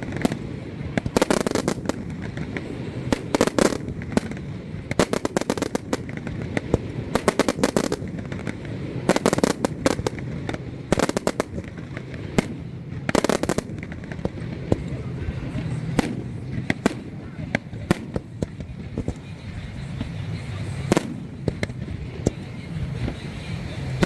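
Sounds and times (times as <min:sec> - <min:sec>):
fireworks crackling bangs: 0:00.0 - 0:24.0
low background rumble: 0:00.0 - 0:24.0.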